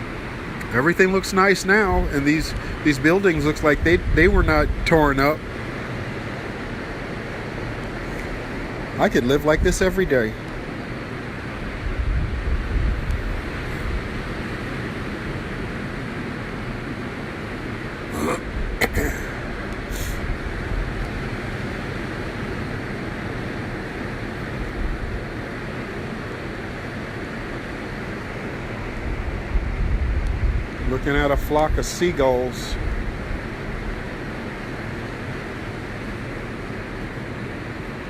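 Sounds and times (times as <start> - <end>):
ocean surf: 0.0 - 38.0
wind rumbling on microphone: 0.0 - 38.0.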